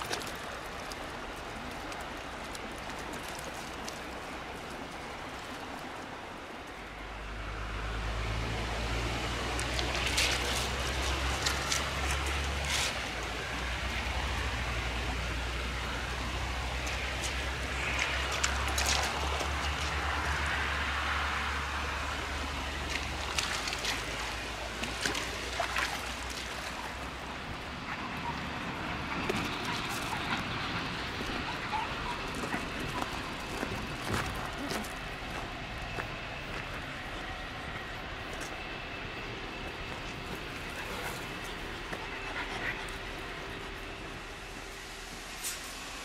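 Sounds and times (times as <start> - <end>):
river flowing over stones: 0.0 - 42.0.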